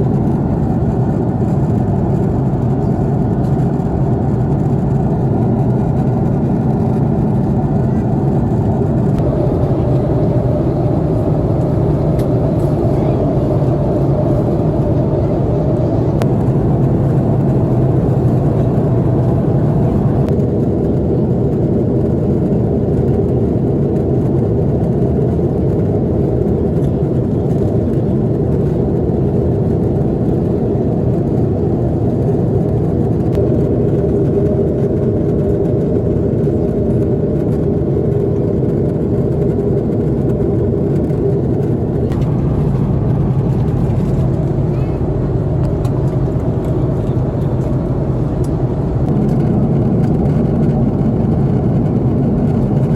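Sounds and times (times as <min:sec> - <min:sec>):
jet engine cabin drone: 0:00.0 - 0:52.9.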